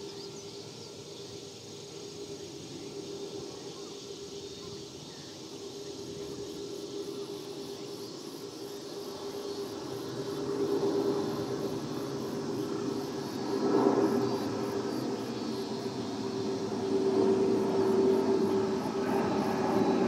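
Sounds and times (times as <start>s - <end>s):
jet airliner drone overhead: 0.0s - 20.0s.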